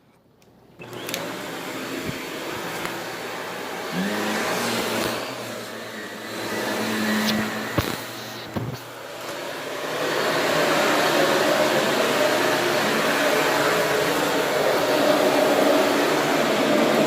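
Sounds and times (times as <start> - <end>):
vacuum cleaner motor humming: 0.8 - 17.0.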